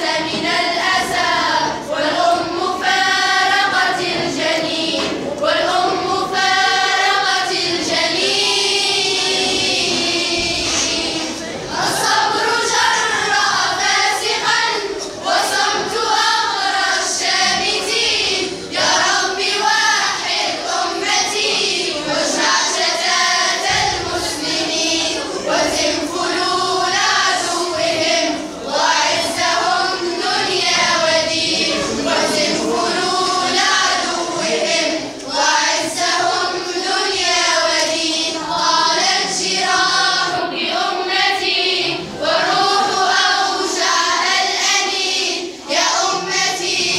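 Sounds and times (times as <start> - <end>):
girls singing together: 0.0 - 46.9.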